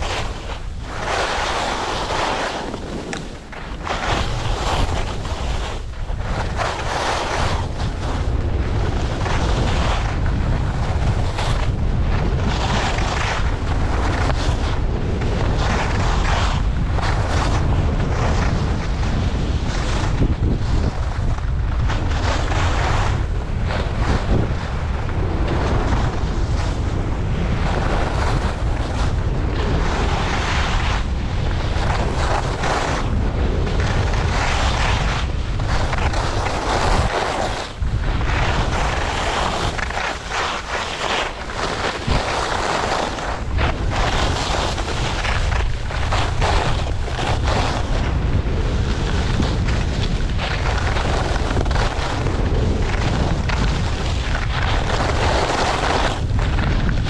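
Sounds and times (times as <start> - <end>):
skis scraping over snow: 0.0 - 57.0
wind buffeting microphone: 0.0 - 57.0.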